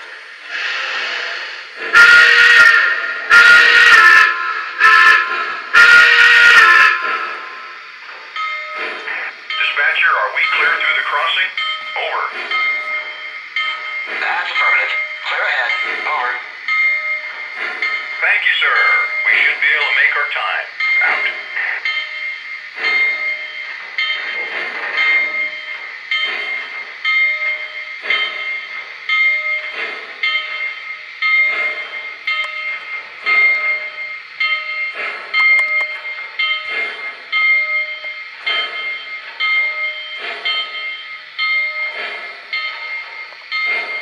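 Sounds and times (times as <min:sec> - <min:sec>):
steam locomotive chuffs: 0:00.0 - 0:44.0.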